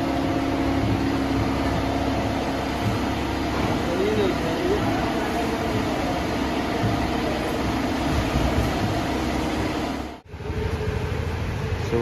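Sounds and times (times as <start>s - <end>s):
workshop machinery hum and hiss: 0.0s - 12.0s.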